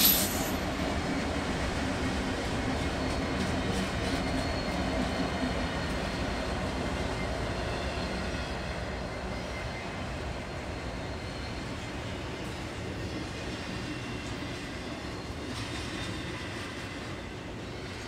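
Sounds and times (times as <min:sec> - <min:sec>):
diesel locomotive engines running: 0:00.0 - 0:18.0
wheels rumbling on rail: 0:00.0 - 0:18.0.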